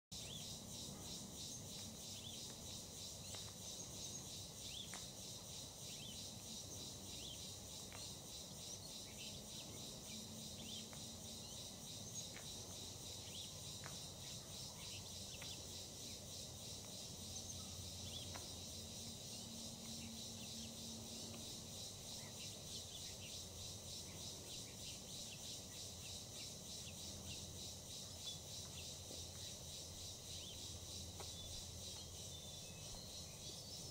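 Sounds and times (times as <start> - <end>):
insect chorus pulsing trill: 0.2 - 33.9.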